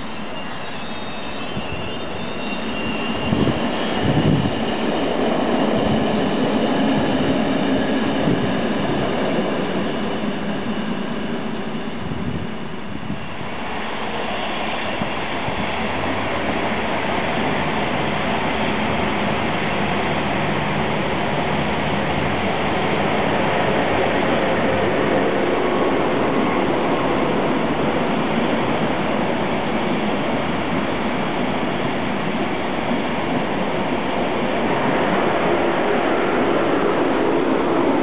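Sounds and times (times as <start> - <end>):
train wheels rolling on rails: 0.0 - 38.0.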